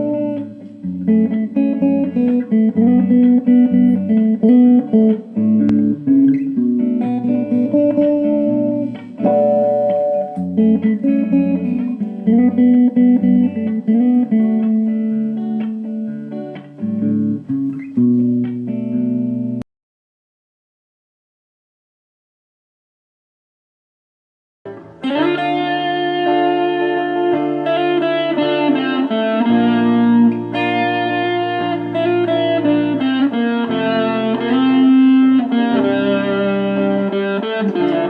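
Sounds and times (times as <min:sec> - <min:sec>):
plucked guitar melody: 0:00.0 - 0:19.6, 0:24.7 - 0:38.0.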